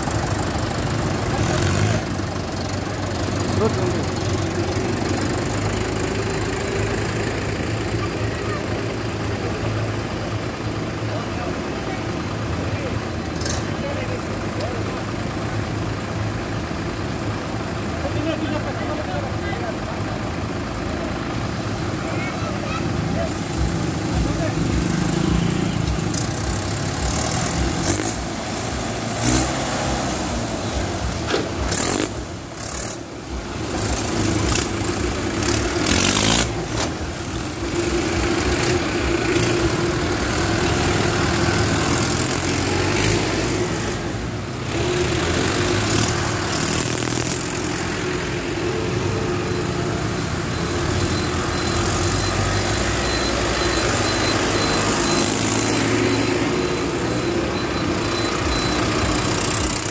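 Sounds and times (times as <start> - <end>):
tractor diesel engines running: 0.0 - 59.9.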